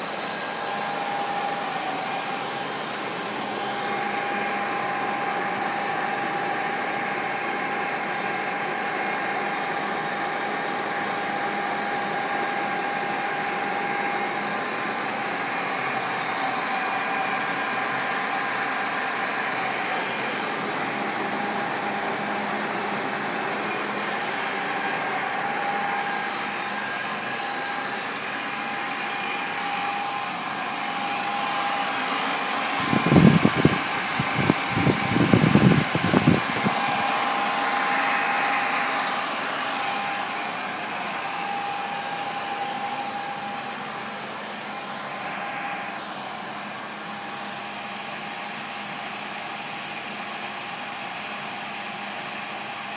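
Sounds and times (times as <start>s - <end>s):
milling machine whine: 0.0s - 52.9s.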